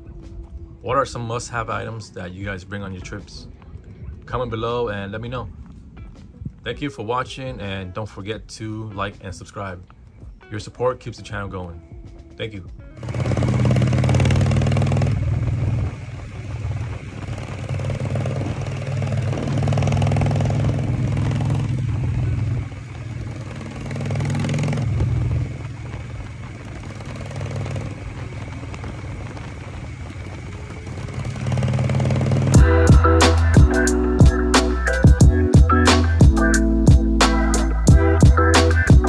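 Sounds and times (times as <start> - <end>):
motorcycle engine riding: 0.0 - 39.0.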